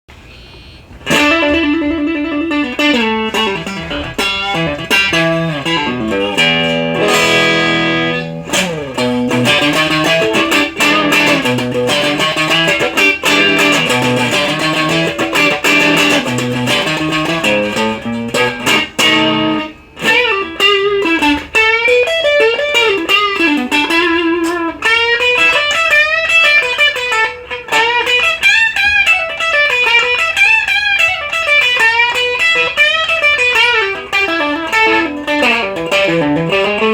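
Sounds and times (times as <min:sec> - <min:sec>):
overdriven electric guitar: 0:00.8 - 0:36.9.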